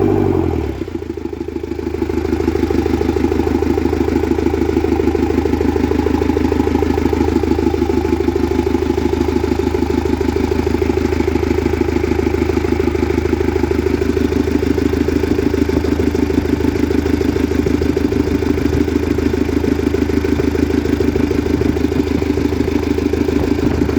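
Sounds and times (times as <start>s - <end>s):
forklift engine idling: 0.0s - 23.9s.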